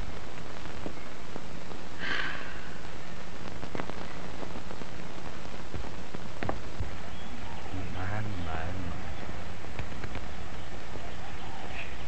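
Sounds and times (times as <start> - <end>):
crackles and clicks: 0.0 - 12.0
film soundtrack hiss: 0.0 - 12.0
low hum: 0.0 - 12.0.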